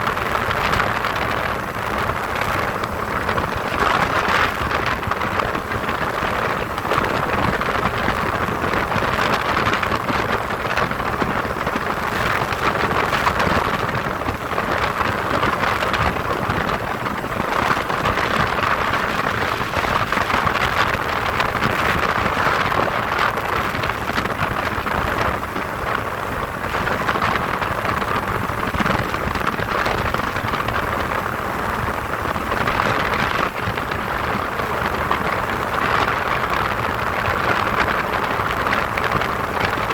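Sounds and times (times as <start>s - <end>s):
wind and engine rushing: 0.0s - 39.9s.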